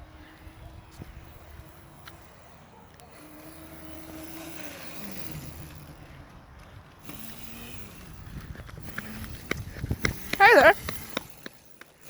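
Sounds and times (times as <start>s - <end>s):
distant dirt bike engine: 0.0s - 12.0s.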